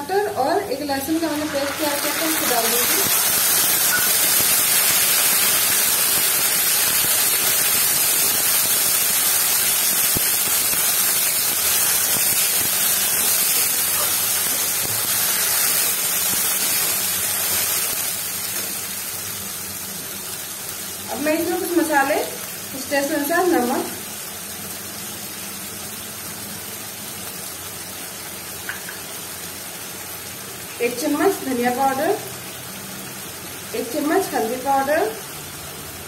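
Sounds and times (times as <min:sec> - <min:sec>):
paste sizzling in hot oil: 0:00.9 - 0:36.0.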